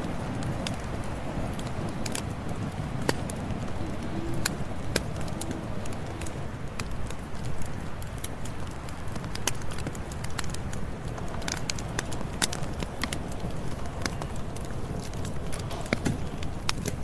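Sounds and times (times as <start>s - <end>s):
campfire crackling and popping: 0.0s - 17.0s
fire low rush: 0.0s - 17.0s.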